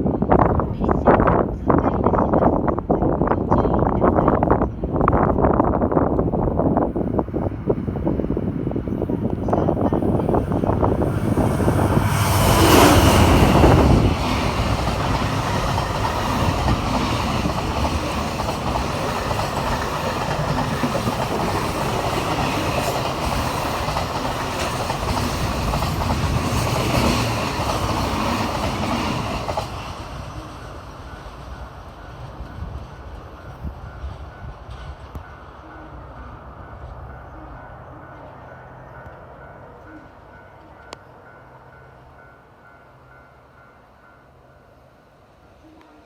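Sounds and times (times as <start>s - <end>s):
freight train passing: 0.0s - 46.0s.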